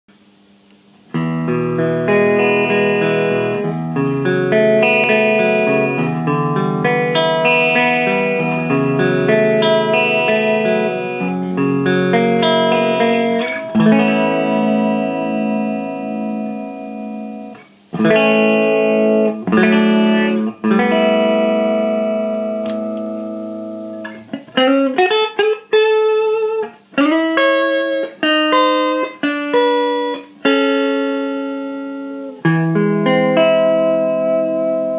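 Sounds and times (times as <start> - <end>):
electric guitar chords: 0.4 - 34.9.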